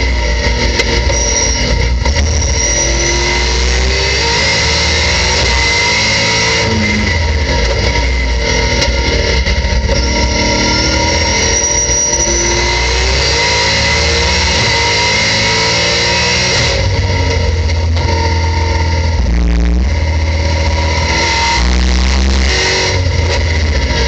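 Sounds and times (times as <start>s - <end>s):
race car engine: 0.0s - 24.0s.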